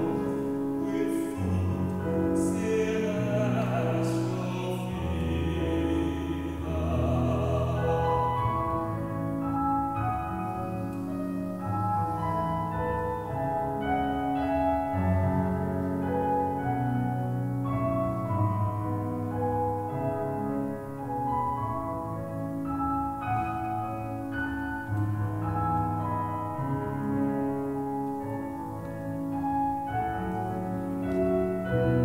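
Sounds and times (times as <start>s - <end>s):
piano playing slow chords: 0.0s - 32.0s.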